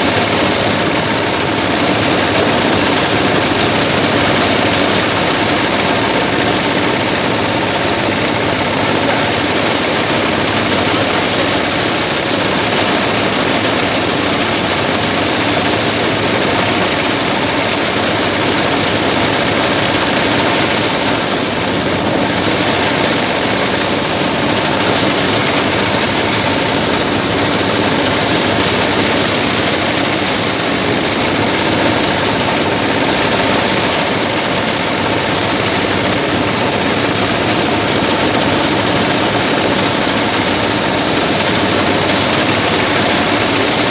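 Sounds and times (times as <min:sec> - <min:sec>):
thresher engine running: 0:00.0 - 0:43.9.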